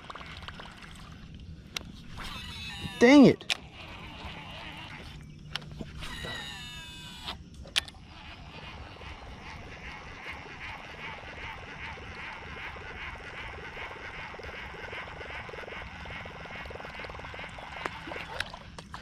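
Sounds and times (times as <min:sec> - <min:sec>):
frogs calling in chorus: 0:02.2 - 0:18.6.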